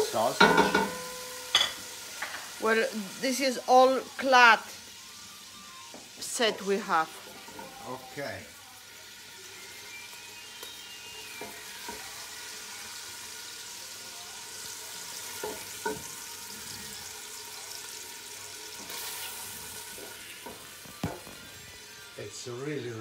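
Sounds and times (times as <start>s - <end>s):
meat sizzling in a pan: 0.0s - 23.0s.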